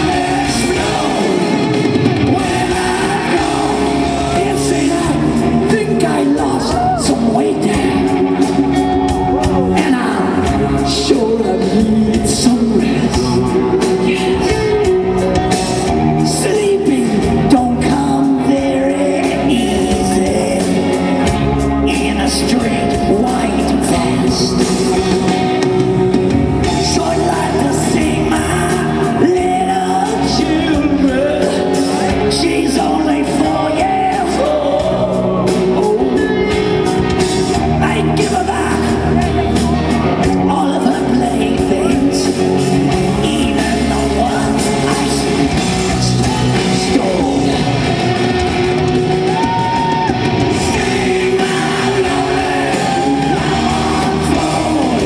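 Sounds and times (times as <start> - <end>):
live rock band playing: 0.0 - 55.0
male lead singer: 0.0 - 55.0.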